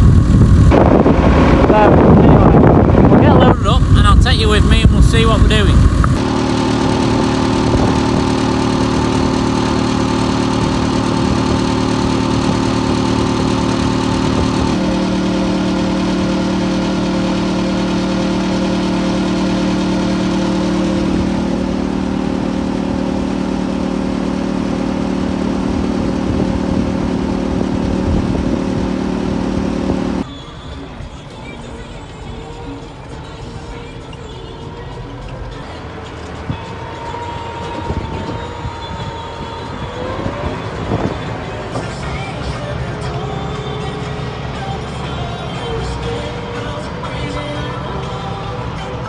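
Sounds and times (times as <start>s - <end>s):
tractor diesel engine running: 0.0s - 30.3s, 35.4s - 49.0s.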